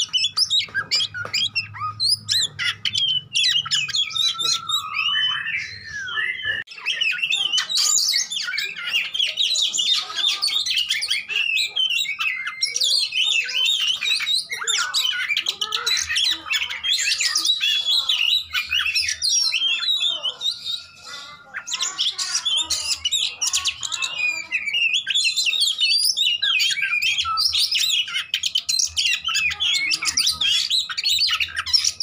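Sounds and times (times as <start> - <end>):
magpie-robin song: 0.0 - 32.0.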